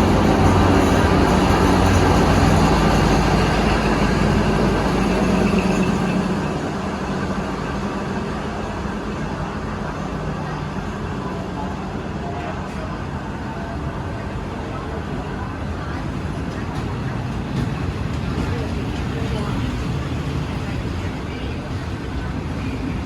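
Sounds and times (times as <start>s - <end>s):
locomotive engine drone: 0.0s - 23.0s
rolling rail noise: 0.0s - 23.0s.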